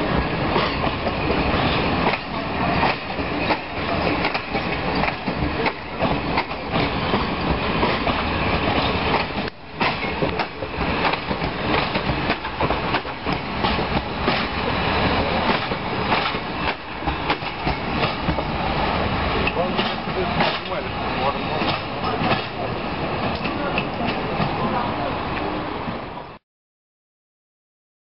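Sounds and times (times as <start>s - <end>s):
train rumbling past: 0.0s - 26.4s
wheels clacking over rail joints: 0.2s - 25.5s.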